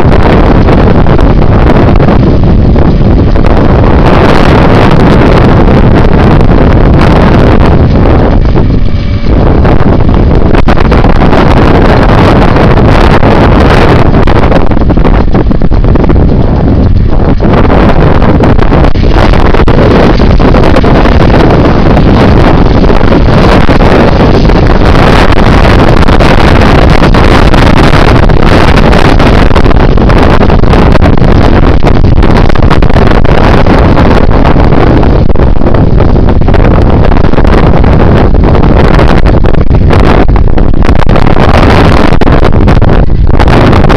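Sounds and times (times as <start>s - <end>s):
strong wind buffeting microphone: 0.0s - 43.9s.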